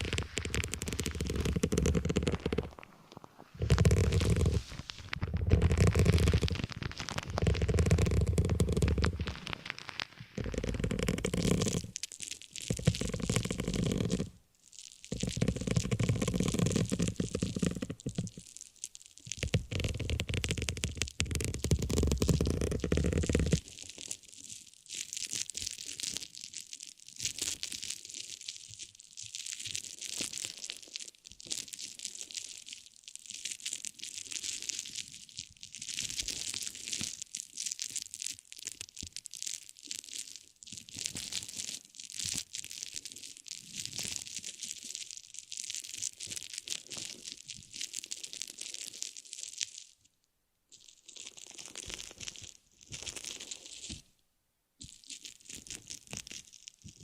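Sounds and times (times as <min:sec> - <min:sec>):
material crinkling and crackling: 0:00.0 - 0:50.1, 0:50.7 - 0:54.1, 0:54.8 - 0:57.0.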